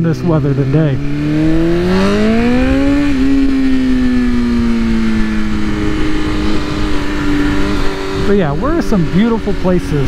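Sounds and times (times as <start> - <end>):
motorcycle engine pulling: 0.1 - 10.0
wind rumble on microphone: 1.0 - 10.0.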